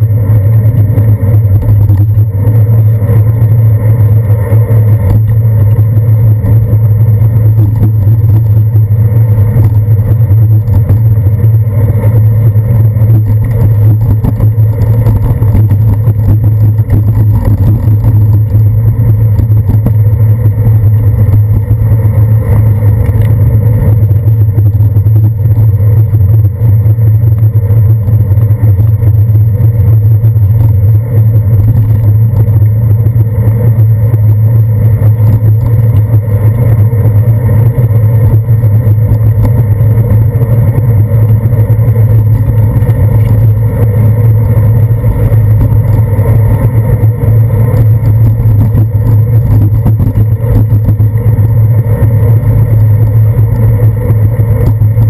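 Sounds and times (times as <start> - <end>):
bicycle rolling over wet pavement: 0.0 - 55.0
faint high whine: 0.0 - 55.0.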